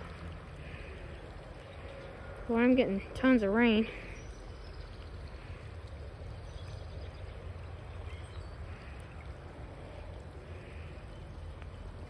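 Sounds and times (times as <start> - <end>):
rain falling on water: 0.0 - 12.0
river flowing: 0.0 - 12.0.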